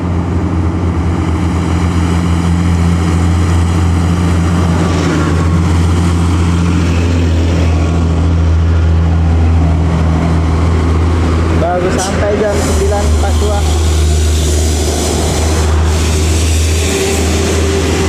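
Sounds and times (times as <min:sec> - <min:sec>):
bus diesel engine droning: 0:00.0 - 0:18.0
tyre and road noise: 0:00.0 - 0:18.0.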